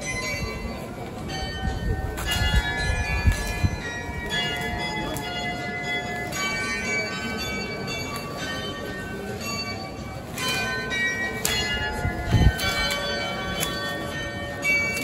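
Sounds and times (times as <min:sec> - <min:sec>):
bells ringing: 0:00.0 - 0:15.0.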